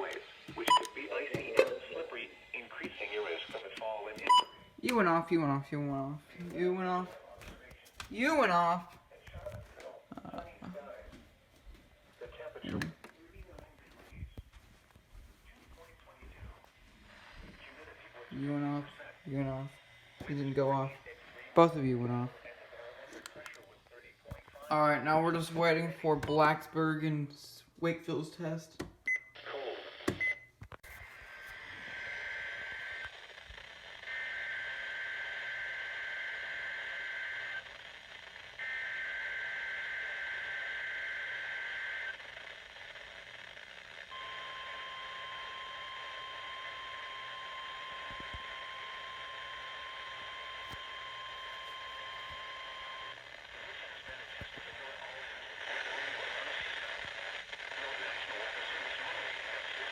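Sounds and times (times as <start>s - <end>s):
radio static hiss: 0.0s - 26.2s, 29.4s - 59.9s.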